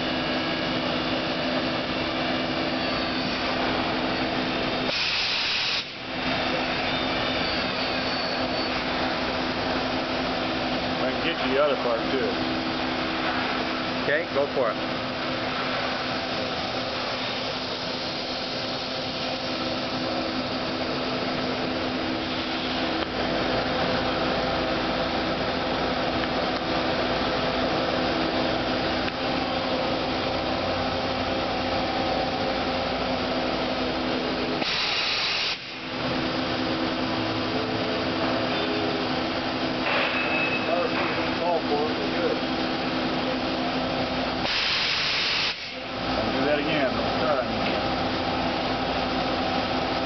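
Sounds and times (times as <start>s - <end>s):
lathe machine hum with whine: 0.0s - 50.0s.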